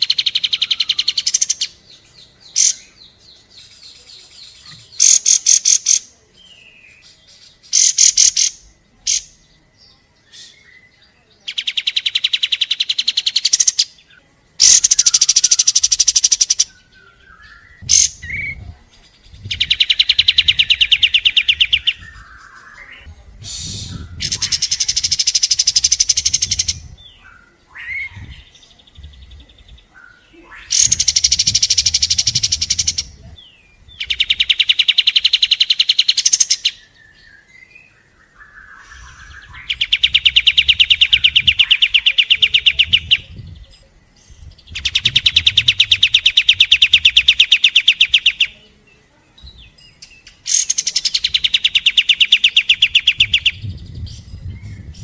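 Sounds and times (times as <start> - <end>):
songbird rattling trills: 0.0 - 6.1, 6.9 - 9.5, 11.5 - 37.2, 37.9 - 48.6, 49.6 - 55.0
faint bird chirps: 0.0 - 55.0.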